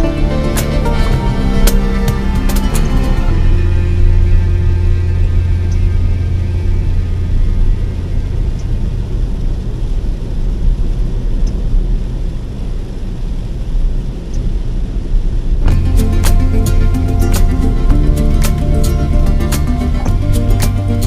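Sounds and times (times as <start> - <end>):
vehicle road and engine rumble: 0.0 - 21.0.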